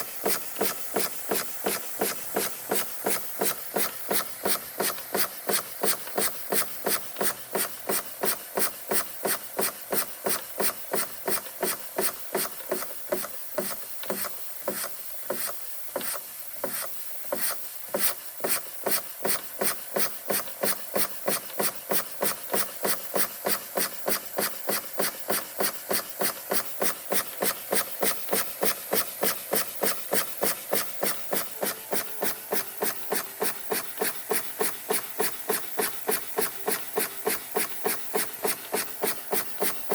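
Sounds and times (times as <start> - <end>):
toy steam engine chuffing: 0.0 - 39.9.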